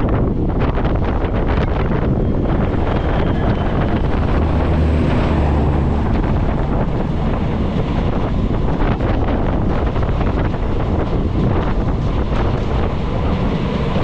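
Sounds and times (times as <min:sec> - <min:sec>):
low engine hum: 0:00.0 - 0:14.0
train wheels rumbling and clattering: 0:00.0 - 0:14.0
wind rushing on microphone: 0:00.0 - 0:14.0.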